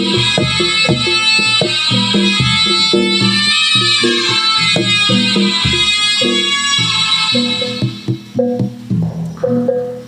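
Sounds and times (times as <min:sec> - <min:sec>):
sustained high melody: 0:00.0 - 0:08.7
struck pitched percussion: 0:00.0 - 0:10.0.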